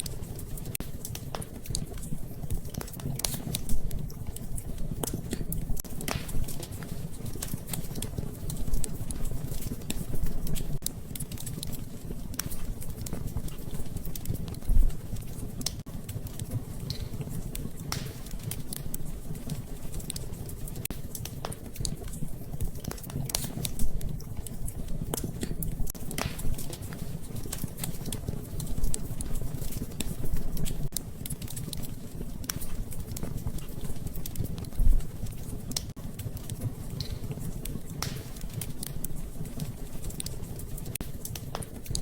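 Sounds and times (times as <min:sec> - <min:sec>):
low rumble of flames: 0:00.0 - 0:42.0
wood fire crackling and popping: 0:00.0 - 0:42.0.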